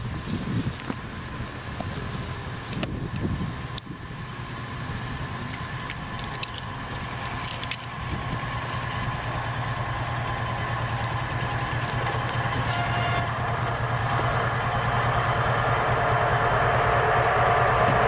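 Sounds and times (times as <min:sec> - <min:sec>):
diesel locomotive engine running: 0:00.0 - 0:18.0.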